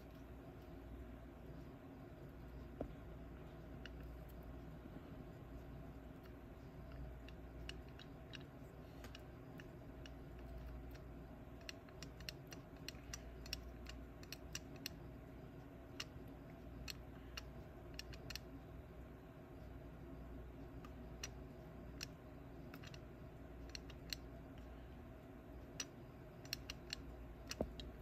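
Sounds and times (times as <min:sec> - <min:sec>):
low steady hum: 0:00.0 - 0:28.0
small clicks and ticks: 0:00.0 - 0:28.0.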